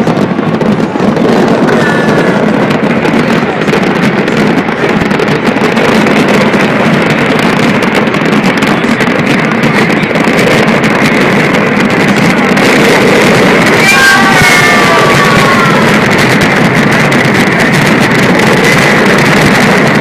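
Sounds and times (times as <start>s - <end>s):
boat engine rumble: 0.0s - 20.0s
wind on microphone: 0.0s - 20.0s.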